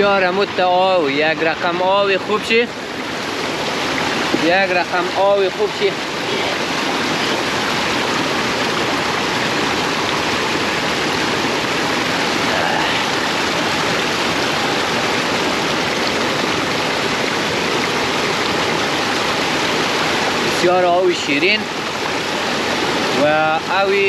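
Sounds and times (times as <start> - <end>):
water rushing over boulders: 0.0 - 24.0.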